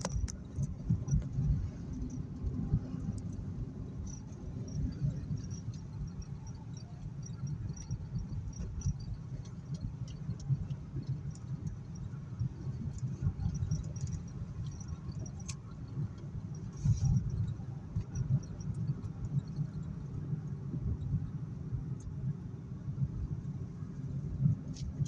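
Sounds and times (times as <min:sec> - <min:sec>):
faint ticks: 0:00.0 - 0:21.3, 0:21.9 - 0:22.2
car cabin rumble: 0:00.0 - 0:25.0.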